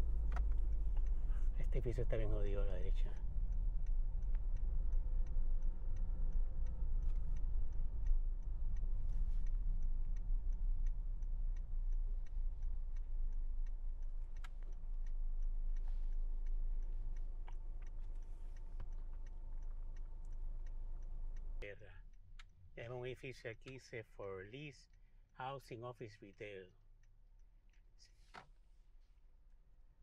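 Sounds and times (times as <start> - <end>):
low car cabin hum: 0.0 - 30.0
turn signal ticking: 0.0 - 30.0.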